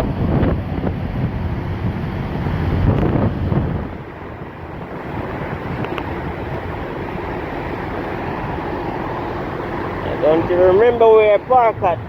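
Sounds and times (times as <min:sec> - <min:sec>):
low rumble of vehicles: 0:00.0 - 0:12.0
wind on microphone: 0:00.0 - 0:12.0.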